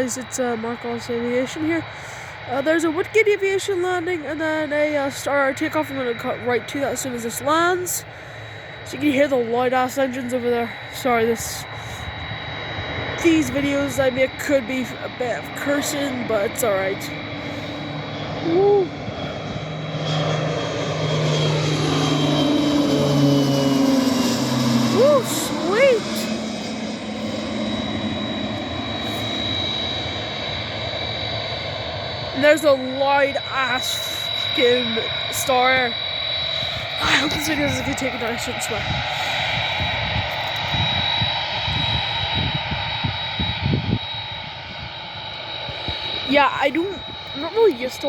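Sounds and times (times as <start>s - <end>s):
high falling whine: 0.0s - 48.0s
propeller aircraft engines droning: 0.0s - 48.0s.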